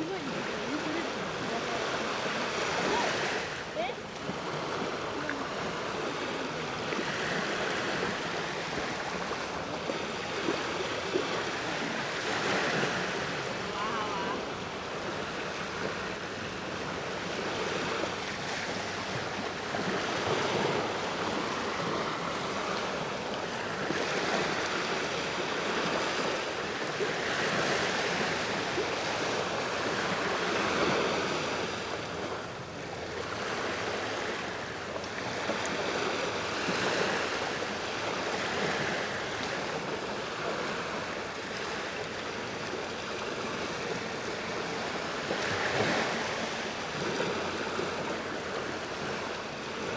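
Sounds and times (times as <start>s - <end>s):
sea waves breaking on shore: 0.0s - 49.9s.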